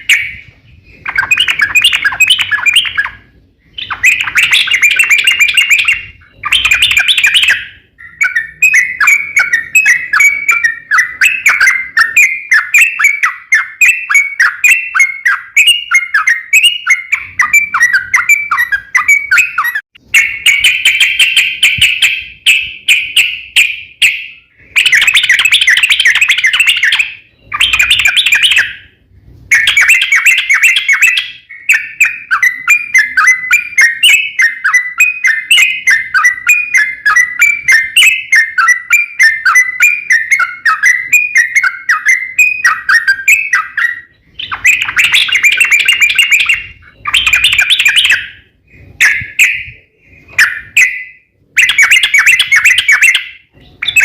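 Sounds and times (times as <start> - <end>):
bulbul singing rapid song: 0.0 - 54.0.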